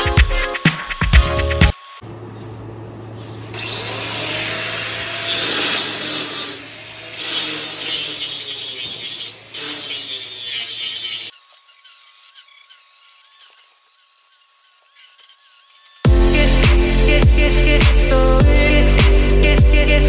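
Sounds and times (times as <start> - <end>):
electric power tool running: 1.6 - 18.9.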